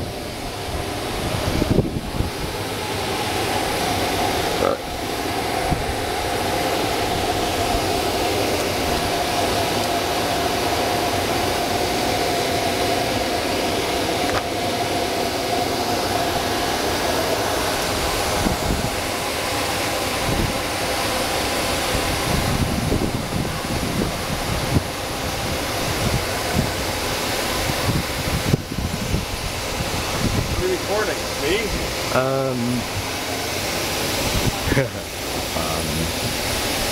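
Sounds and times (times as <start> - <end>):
car wash vacuum whine: 0.0 - 36.9.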